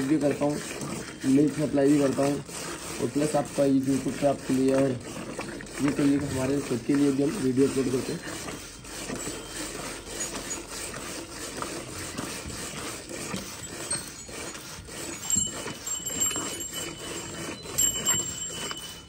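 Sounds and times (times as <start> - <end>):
milk squirting into bucket: 0.0 - 18.8.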